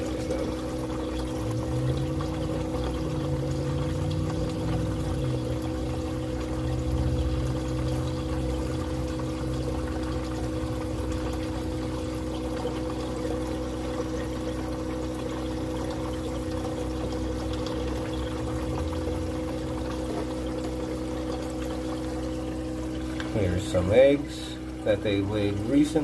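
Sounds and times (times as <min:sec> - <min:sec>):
pump humming: 0:00.0 - 0:26.0
water trickling: 0:00.0 - 0:26.0.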